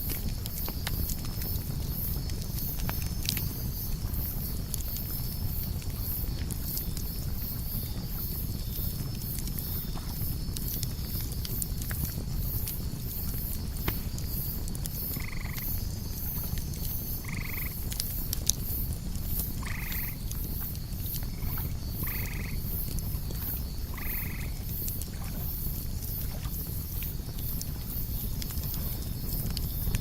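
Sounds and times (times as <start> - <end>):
campfire crackling and popping: 0.0 - 30.0
crickets chirping: 0.0 - 30.0.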